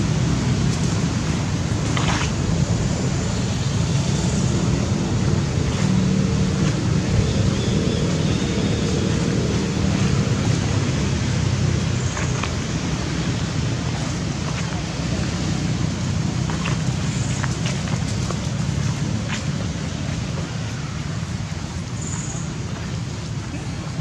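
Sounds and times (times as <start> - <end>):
low rumbling noise: 0.0 - 24.0.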